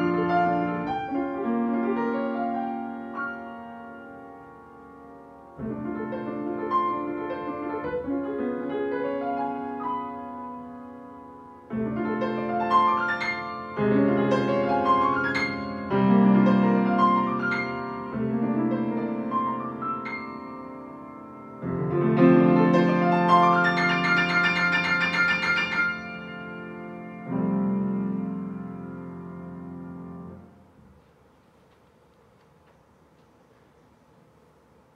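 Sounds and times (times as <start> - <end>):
grand piano playing: 0.0 - 30.8.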